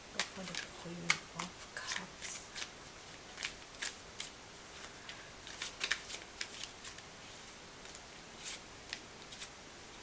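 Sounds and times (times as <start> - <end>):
cards being flipped by hand: 0.2 - 9.5.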